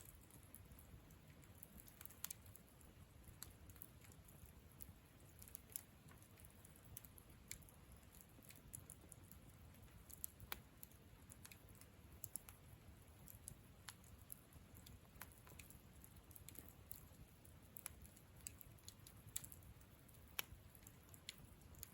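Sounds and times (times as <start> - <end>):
campfire crackling: 0.0 - 21.9
fire pops and snaps: 0.0 - 21.9.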